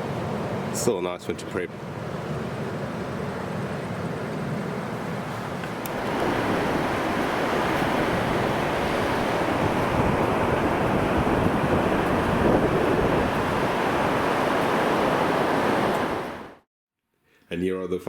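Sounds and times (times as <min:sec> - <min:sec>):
surf washing on beach: 0:00.0 - 0:16.6
wind on microphone: 0:01.8 - 0:16.6.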